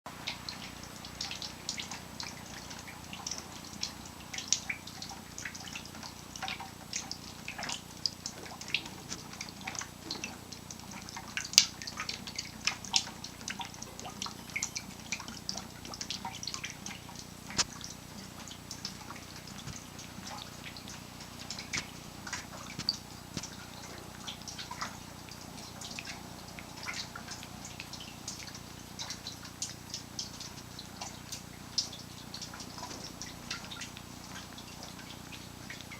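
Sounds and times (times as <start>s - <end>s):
water dripping: 0.1s - 35.9s.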